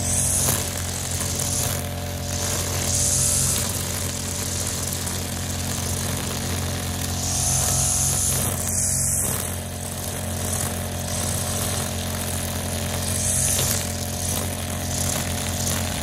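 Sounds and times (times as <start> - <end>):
brush cutter cutting grass: 0.0 - 16.0.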